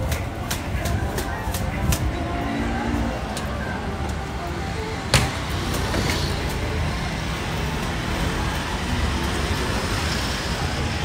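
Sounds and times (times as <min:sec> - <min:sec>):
cars going by: 0:00.0 - 0:11.0.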